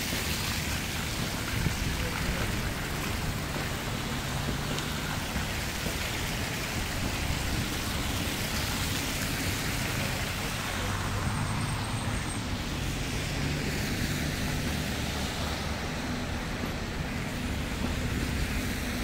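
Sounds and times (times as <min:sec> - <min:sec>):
car tyres hissing on snow: 0:00.0 - 0:19.0
low hum of engines: 0:00.0 - 0:19.0.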